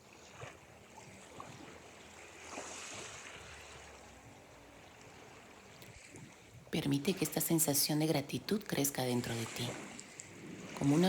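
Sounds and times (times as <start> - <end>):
ocean waves washing in: 0.0 - 11.0.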